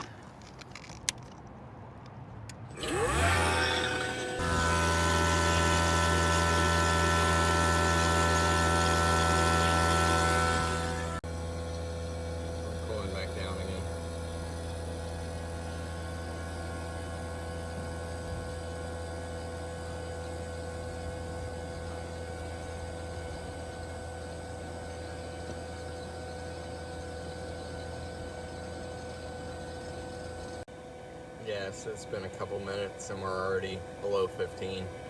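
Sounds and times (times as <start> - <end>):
vacuum pump humming and whining: 2.7 - 35.0.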